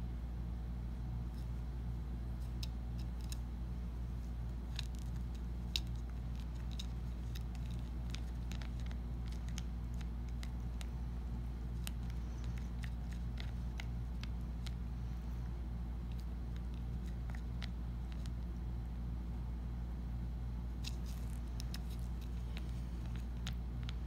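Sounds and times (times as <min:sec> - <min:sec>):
steady low hum: 0:00.0 - 0:24.0
cat gnawing on wood: 0:02.3 - 0:18.5, 0:20.8 - 0:24.0.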